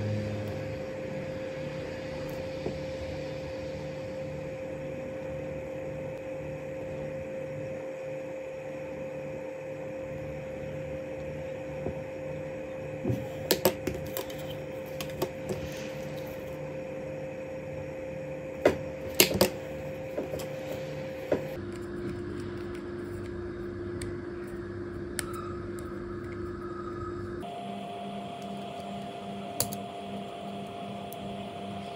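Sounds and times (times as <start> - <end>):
machine hum with low pulsing: 0.0 - 31.9.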